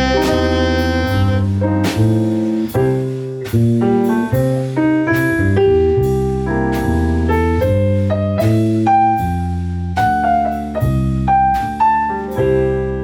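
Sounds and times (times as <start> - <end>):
sharp drum hits: 0.0 - 12.6
jazz piano: 0.0 - 13.0.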